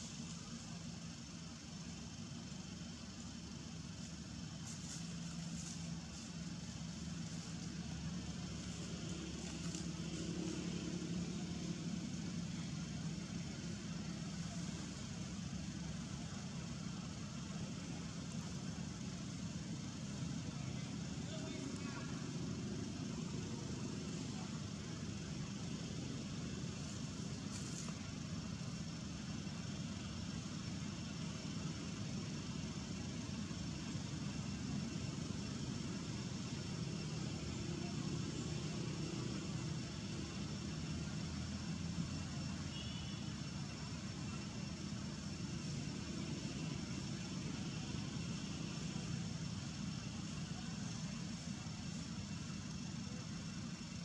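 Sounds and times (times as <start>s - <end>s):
outdoor hiss: 0.0s - 54.0s.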